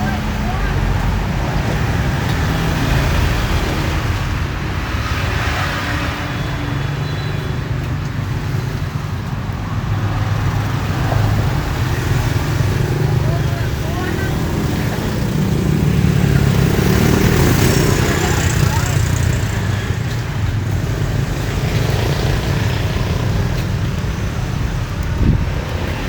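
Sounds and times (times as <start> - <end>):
street traffic noise: 0.0 - 26.0
vehicles passing: 0.0 - 26.0.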